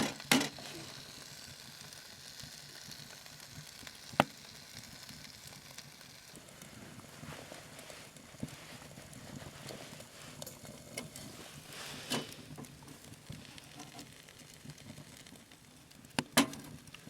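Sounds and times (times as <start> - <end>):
faint sizzling hiss: 0.0 - 17.0.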